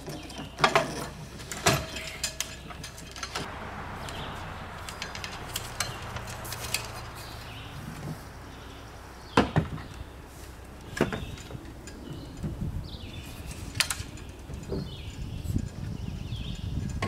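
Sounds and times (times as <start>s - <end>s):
knocks and clanks of mast rigging: 0.0s - 17.0s.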